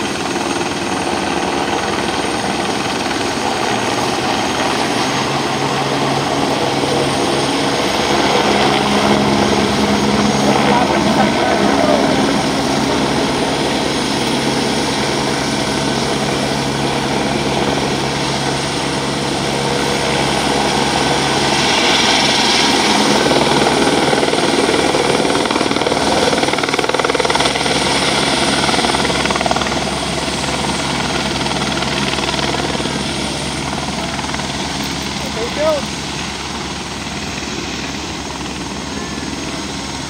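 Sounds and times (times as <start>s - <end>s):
helicopter turbine and rotor: 0.0s - 40.0s.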